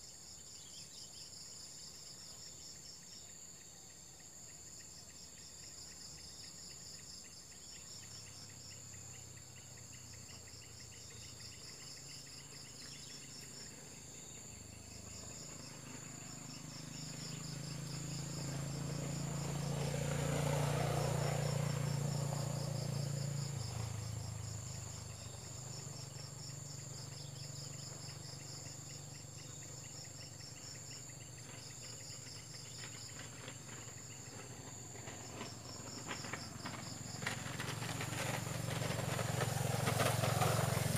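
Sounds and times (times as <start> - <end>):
crickets chirping: 0.0 - 40.9
passing vehicle engine hum: 5.8 - 40.9.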